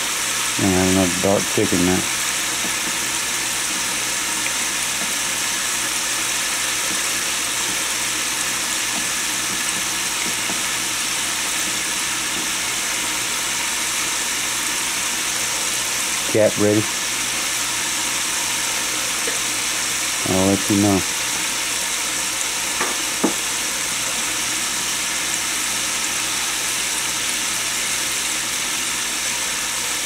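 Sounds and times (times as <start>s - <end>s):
chicken sizzling in hot grease: 0.0s - 30.0s.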